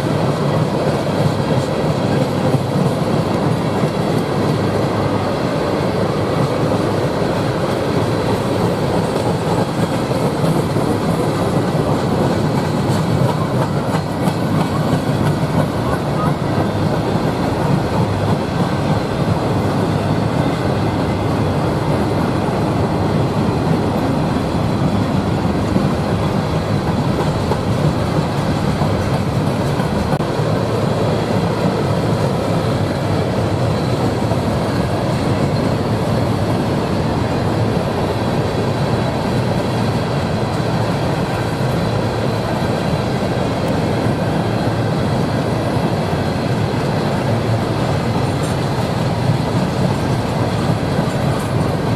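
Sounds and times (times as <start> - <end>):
train wheels rolling on rails: 0.0 - 51.9.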